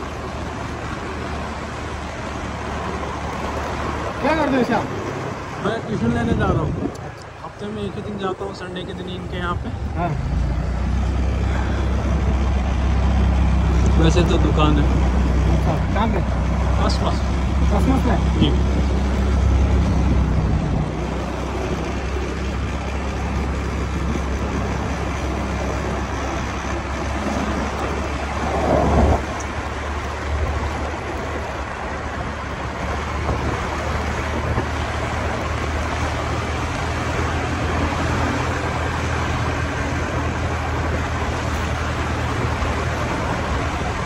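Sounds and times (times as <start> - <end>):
motor scooter engine hum: 0.0 - 44.0
wind and road noise: 0.0 - 44.0.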